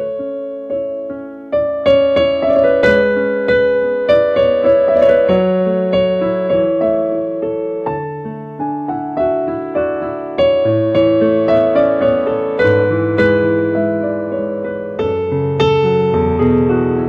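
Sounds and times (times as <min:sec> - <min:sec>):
slow piano playing: 0:00.0 - 0:17.0.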